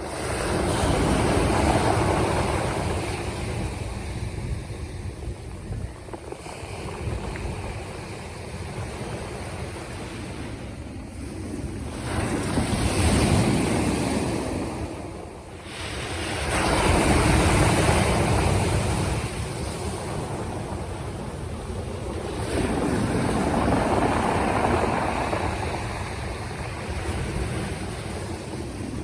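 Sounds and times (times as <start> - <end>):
waves breaking on shore: 0.0 - 29.0
wind rumbling on microphone: 0.0 - 29.0.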